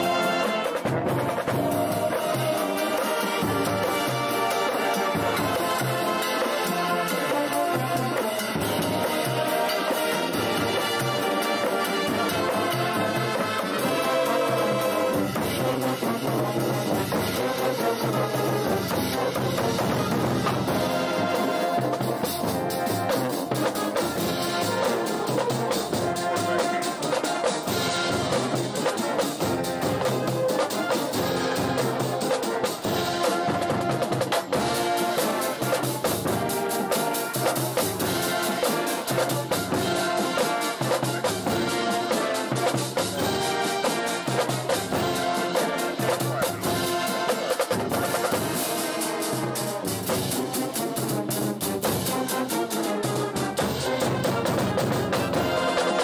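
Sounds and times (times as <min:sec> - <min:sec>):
brass horns playing melody: 0:00.0 - 0:56.0
snare drums: 0:00.0 - 0:56.0.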